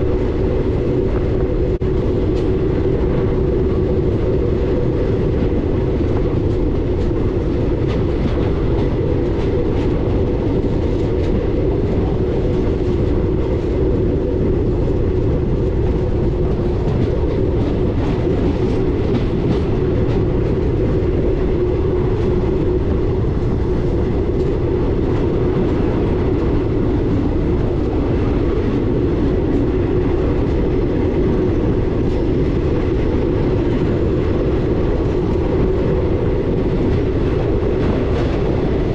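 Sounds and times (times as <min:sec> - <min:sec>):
train rumbling along track: 0:00.0 - 0:38.9.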